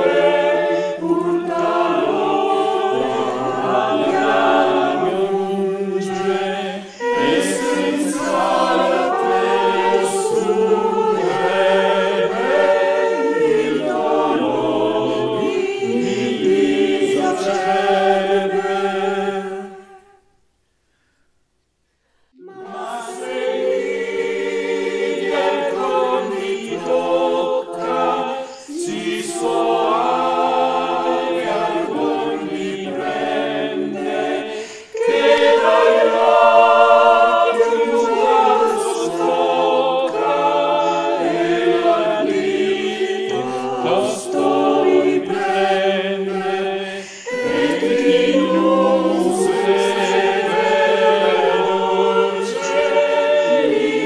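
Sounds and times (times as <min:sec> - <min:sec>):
choir singing in harmony: 0:00.0 - 0:20.5, 0:22.1 - 0:54.0.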